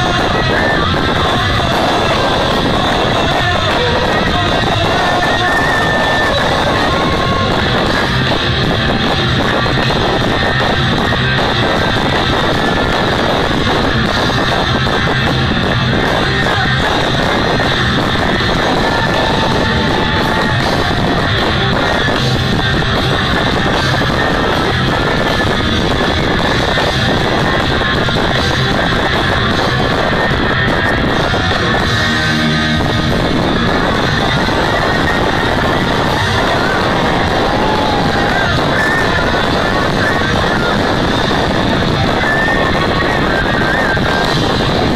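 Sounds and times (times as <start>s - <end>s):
rock music with electric guitar: 0.0s - 44.9s.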